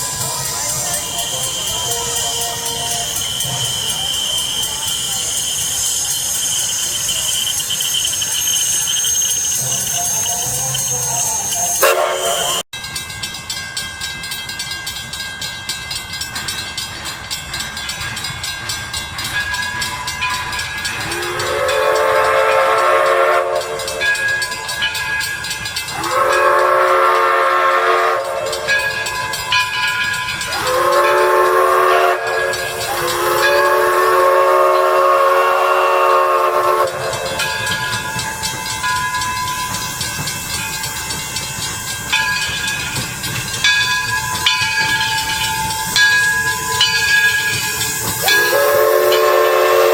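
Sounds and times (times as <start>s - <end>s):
steam locomotive whistle: 0.0s - 12.7s, 20.1s - 49.9s
steam hissing: 0.0s - 49.9s.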